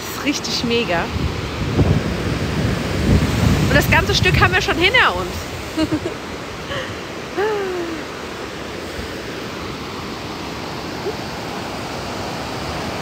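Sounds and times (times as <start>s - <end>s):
rushing white water: 0.0s - 13.0s.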